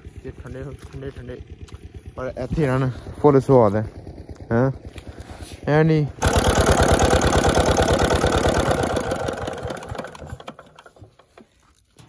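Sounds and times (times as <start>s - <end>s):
diesel engine running down: 0.0s - 11.4s.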